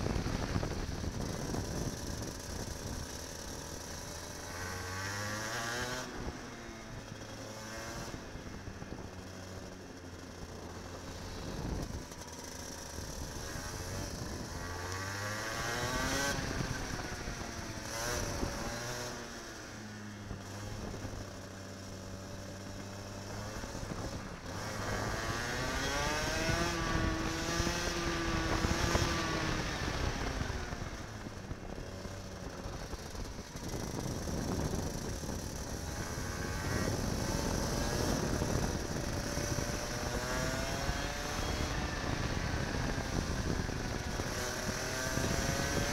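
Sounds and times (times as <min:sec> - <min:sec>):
kart engine revving: 0:00.0 - 0:45.9.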